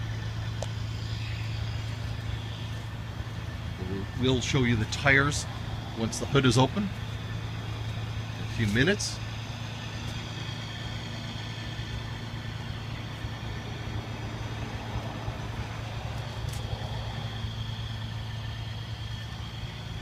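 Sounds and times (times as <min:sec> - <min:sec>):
high whine: 0:00.0 - 0:20.0
truck engine idling: 0:00.0 - 0:20.0.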